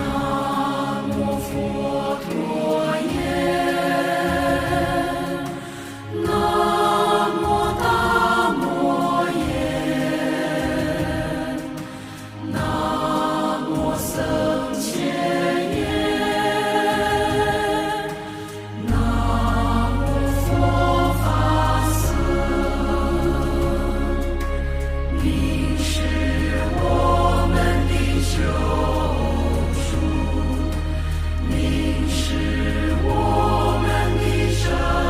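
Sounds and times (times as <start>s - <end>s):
voices chanting together: 0.0s - 35.0s.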